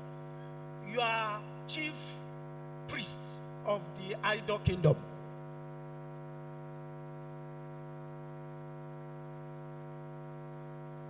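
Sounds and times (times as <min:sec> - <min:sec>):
buzzy mains hum: 0:00.0 - 0:11.0.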